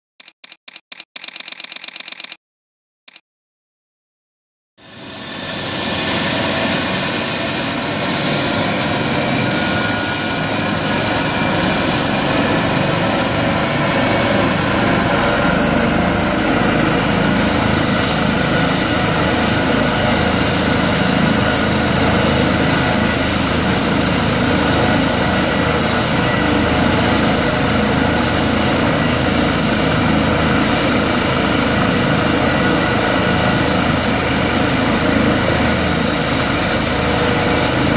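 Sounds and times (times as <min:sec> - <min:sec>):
helicopter turbine whine: 0:04.8 - 0:37.9.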